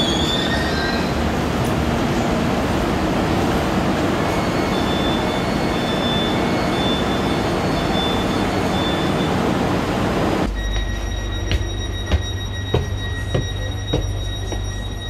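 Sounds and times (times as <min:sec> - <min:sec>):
loud steady platform noise: 0:00.0 - 0:15.0.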